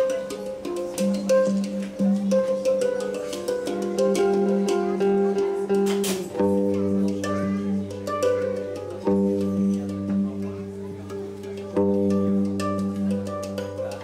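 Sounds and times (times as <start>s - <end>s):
ringing handpan notes: 0.0s - 14.0s.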